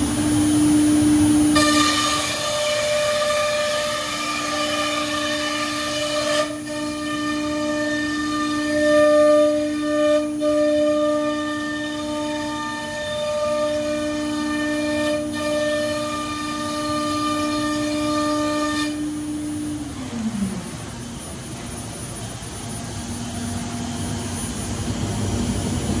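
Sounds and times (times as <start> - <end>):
router spindle whining: 0.0 - 26.0.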